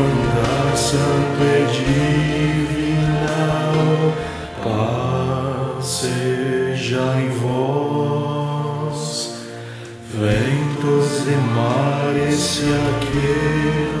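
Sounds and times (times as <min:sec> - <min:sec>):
voices singing a slow hymn: 0:00.0 - 0:14.0.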